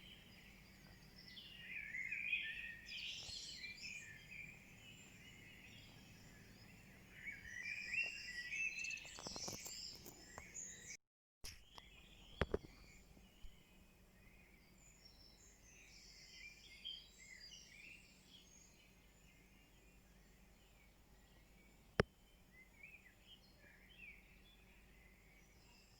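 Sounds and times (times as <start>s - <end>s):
songbirds singing: 0.0s - 25.9s.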